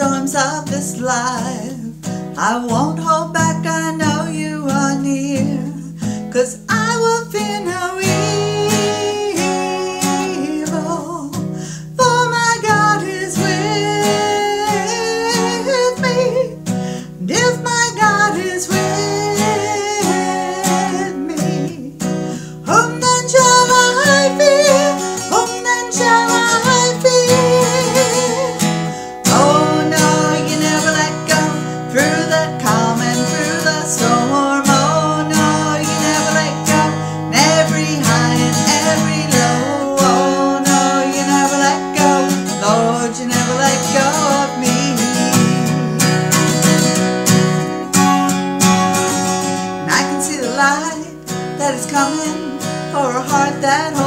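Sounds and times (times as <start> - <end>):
woman singing worship song: 0.0 - 46.2, 49.8 - 54.0
strummed acoustic guitar: 0.0 - 54.0.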